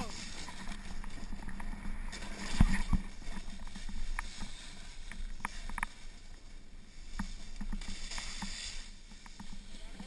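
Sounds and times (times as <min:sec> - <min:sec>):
skis swishing through snow: 0:00.0 - 0:10.0.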